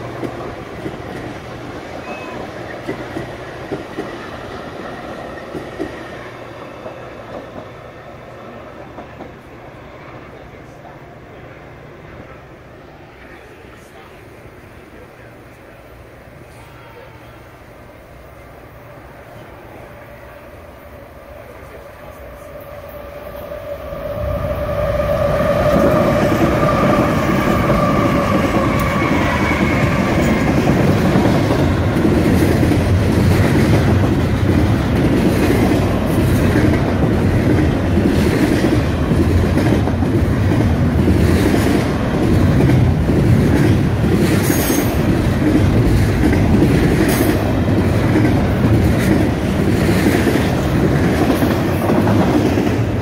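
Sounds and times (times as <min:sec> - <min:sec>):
train rumbling with clickety-clack: 0:00.0 - 0:53.0.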